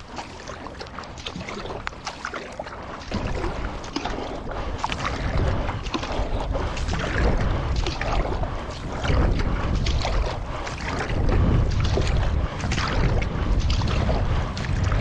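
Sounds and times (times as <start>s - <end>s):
paddle strokes splashing water: 0.0s - 15.0s
wind rumbling on microphone: 0.0s - 15.0s.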